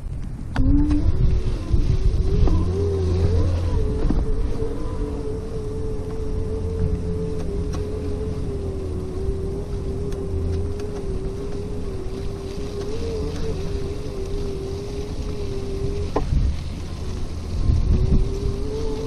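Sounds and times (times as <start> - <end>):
wind: 0.0 - 19.0
electric bicycle motor whine: 0.6 - 19.0.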